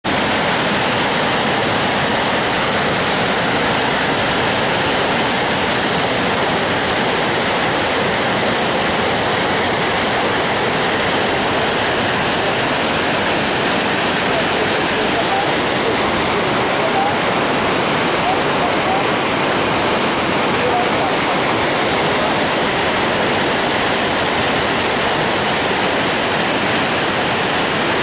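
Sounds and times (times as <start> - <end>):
water rushing through sluice gates: 0.0 - 28.0.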